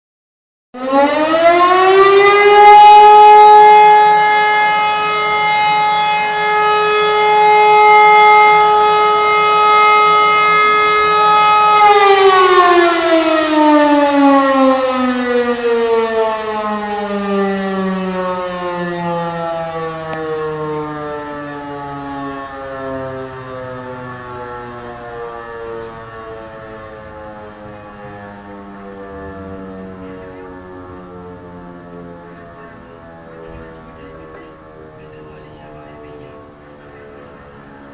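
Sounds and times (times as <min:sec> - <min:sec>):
electromechanical fire siren wailing: 0:00.8 - 0:37.9.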